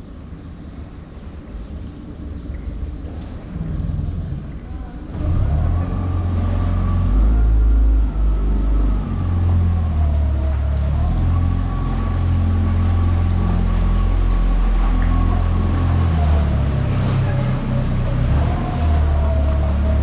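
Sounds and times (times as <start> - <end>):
boat engine droning: 0.0 - 20.0
faint engine whine: 0.0 - 20.0.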